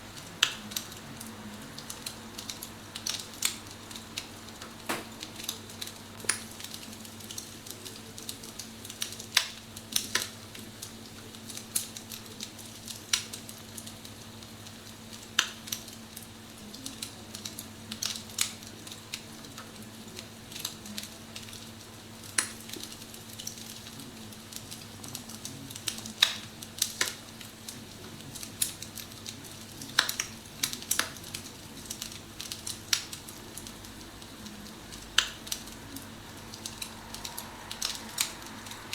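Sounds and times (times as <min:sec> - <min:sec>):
fire crackling pops and snaps: 0:00.0 - 0:38.9.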